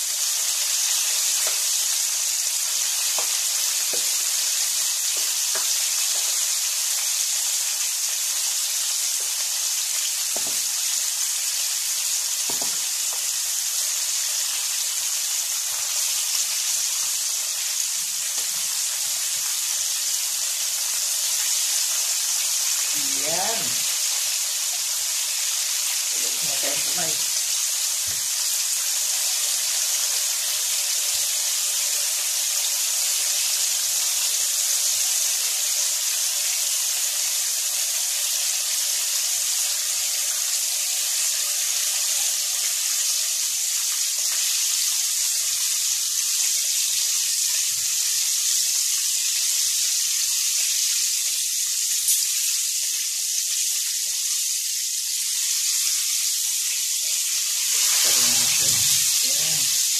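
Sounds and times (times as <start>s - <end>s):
food deep-frying in oil: 0.0s - 59.9s.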